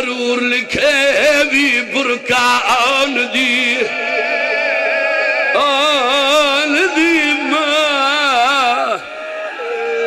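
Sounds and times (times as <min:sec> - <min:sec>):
man chanting a lament: 0:00.0 - 0:09.2.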